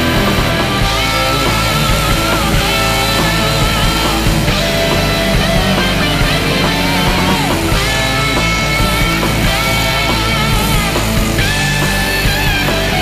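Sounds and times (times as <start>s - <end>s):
electric guitar lead lines: 0.0s - 13.0s
loud rock music: 0.0s - 13.0s.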